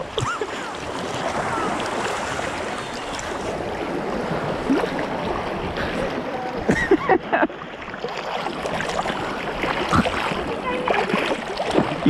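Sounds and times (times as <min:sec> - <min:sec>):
river water rushing and sloshing: 0:00.0 - 0:12.0.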